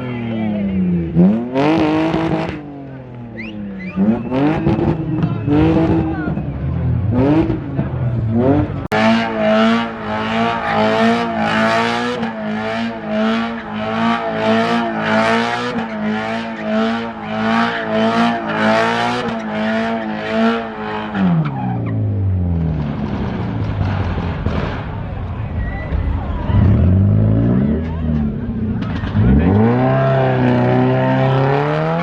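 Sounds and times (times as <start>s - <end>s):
car engine revving high: 0.8s - 24.8s, 26.4s - 32.0s.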